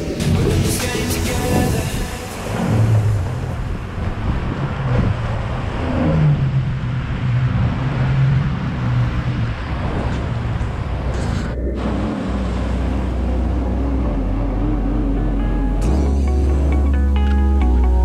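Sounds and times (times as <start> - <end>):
water rushing from jet wake: 0.0 - 15.4
jet ski engines revving: 0.0 - 18.0.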